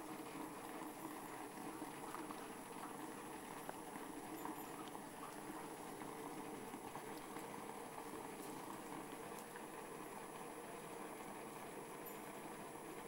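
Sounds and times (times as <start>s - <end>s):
washing machine churning water: 0.0s - 13.0s.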